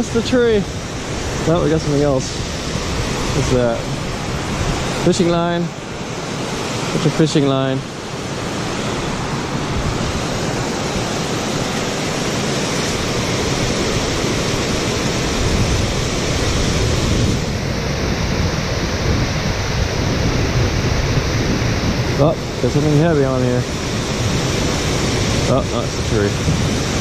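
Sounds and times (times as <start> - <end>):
water rushing over spillway: 0.0 - 27.0.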